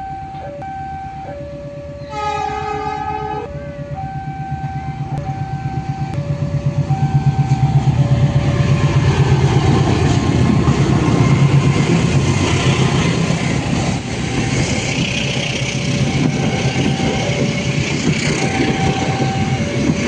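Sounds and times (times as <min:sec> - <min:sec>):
diesel train engine pulsing: 0:00.0 - 0:20.0
two-tone crossing warning alarm: 0:00.0 - 0:20.0.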